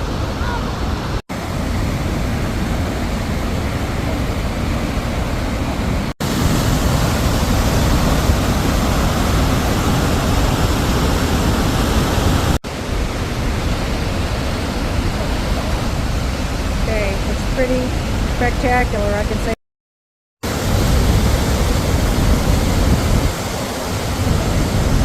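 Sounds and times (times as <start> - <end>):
waterfall rushing: 0.0 - 16.9, 20.4 - 25.0.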